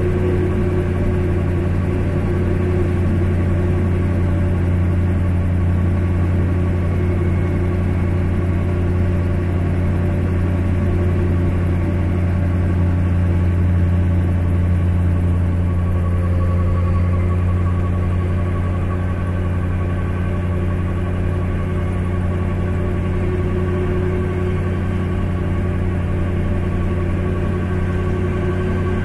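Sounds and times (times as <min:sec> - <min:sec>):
aircraft engine drone: 0:00.0 - 0:29.0.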